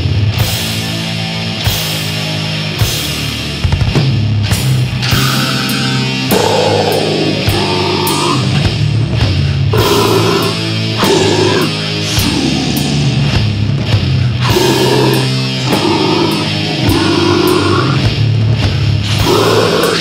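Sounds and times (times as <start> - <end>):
distorted electric guitars: 0.0 - 20.0
drum kit playing: 0.0 - 20.0.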